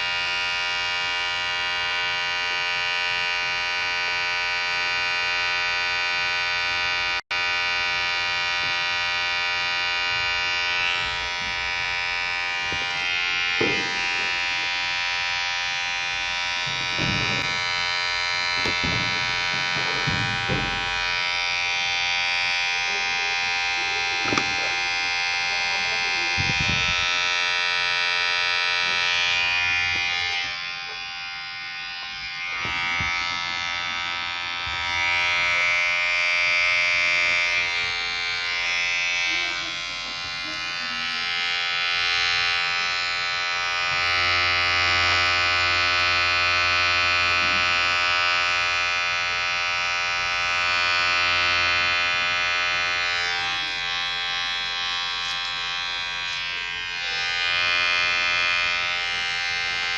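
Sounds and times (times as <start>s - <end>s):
electric hair clipper buzzing: 0.0s - 59.9s.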